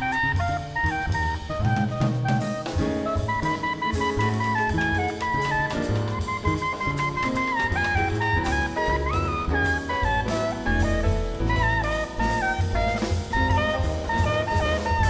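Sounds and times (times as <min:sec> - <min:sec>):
drum kit: 0:00.0 - 0:15.0
horn melody: 0:00.0 - 0:15.0
low accompaniment: 0:00.0 - 0:15.0.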